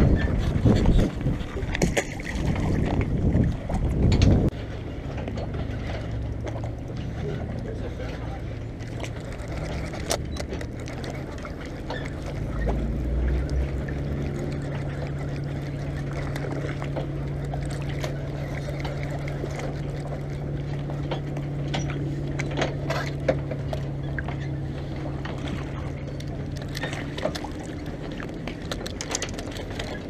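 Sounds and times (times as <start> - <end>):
steady low hum: 0.0 - 30.0
water lapping against boat hull: 0.0 - 30.0.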